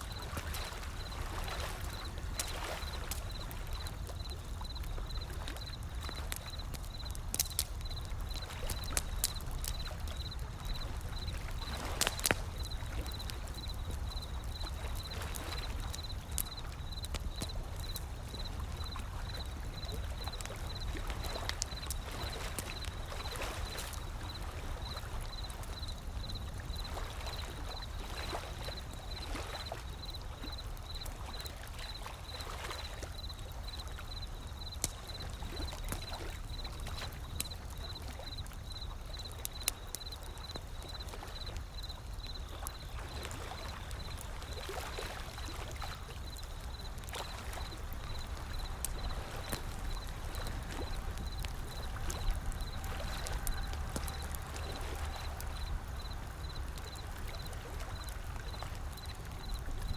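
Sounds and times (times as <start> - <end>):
wood fire crackling and popping: 0.1 - 32.3, 33.0 - 59.9.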